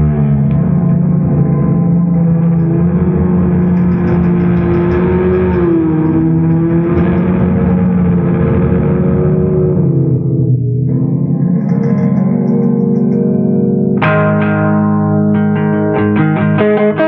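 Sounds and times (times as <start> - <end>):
distorted electric guitar drone: 0.0 - 17.0.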